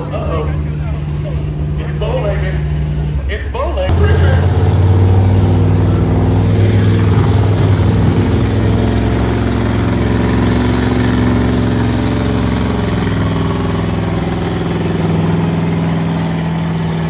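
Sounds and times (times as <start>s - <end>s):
big truck engine running: 0.0s - 17.0s.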